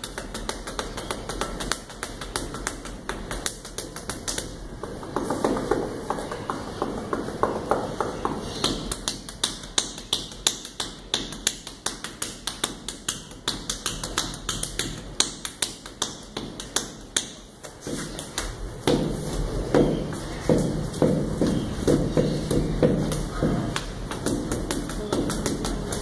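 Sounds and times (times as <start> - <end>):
hands striking a masonry wall: 0.0 - 26.0.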